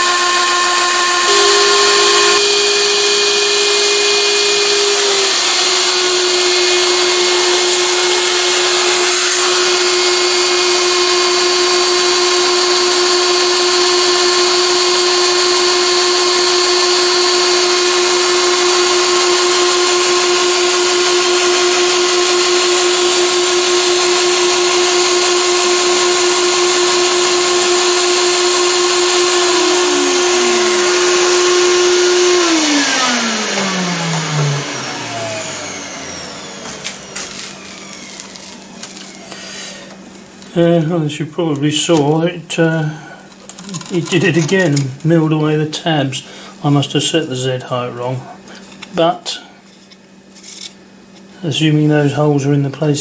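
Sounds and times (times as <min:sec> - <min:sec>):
router spindle whining: 0:00.0 - 0:49.0.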